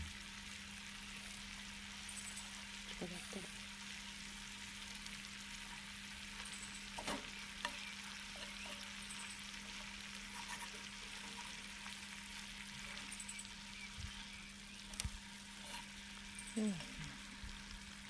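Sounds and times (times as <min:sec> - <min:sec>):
campfire crackles: 0:00.0 - 0:18.0
food sizzling on a grill: 0:00.0 - 0:18.0.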